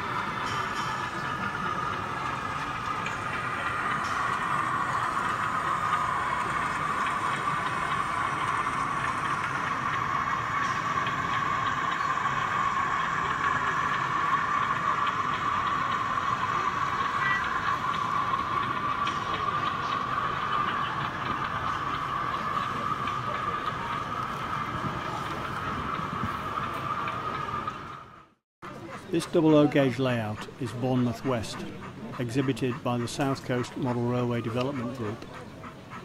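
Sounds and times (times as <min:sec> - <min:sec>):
model locomotive whine: 0:00.0 - 0:36.0.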